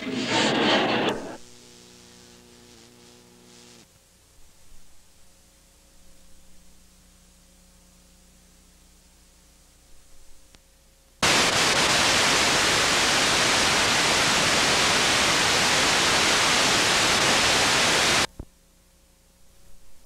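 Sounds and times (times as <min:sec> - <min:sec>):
videotape static hiss: 0:00.0 - 0:18.6.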